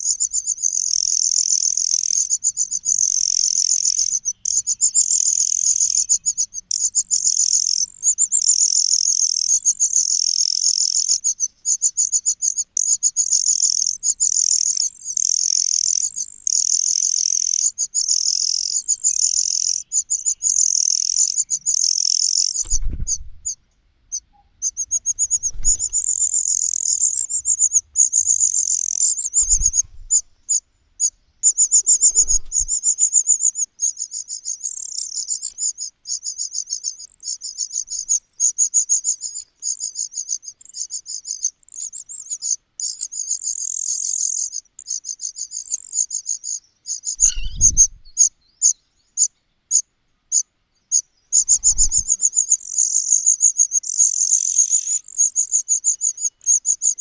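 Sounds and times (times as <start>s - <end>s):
nestling birds chirping: 0.0s - 57.0s.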